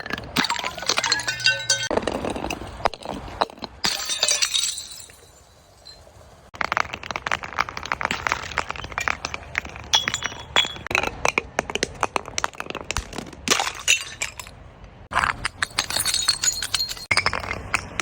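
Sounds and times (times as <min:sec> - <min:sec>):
glass breaking and crushed: 0:00.0 - 0:06.0, 0:06.6 - 0:10.9, 0:13.0 - 0:14.5, 0:15.1 - 0:18.0.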